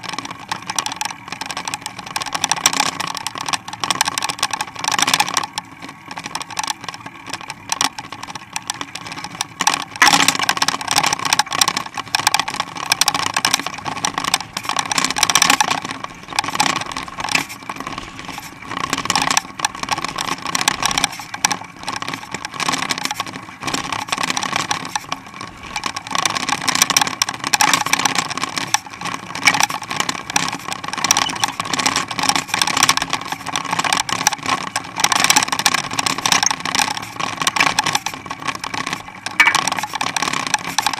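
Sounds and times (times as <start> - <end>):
bike rattling and clinking: 0.0 - 40.9
bike tyres on pavement: 0.0 - 40.9.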